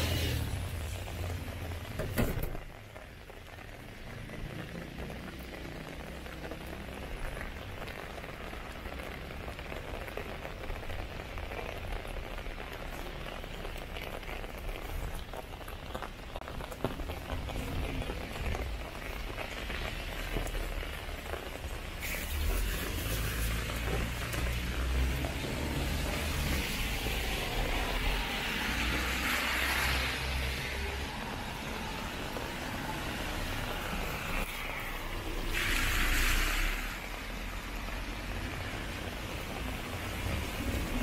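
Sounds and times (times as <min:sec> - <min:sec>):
rain falling on street: 0:00.0 - 0:41.0.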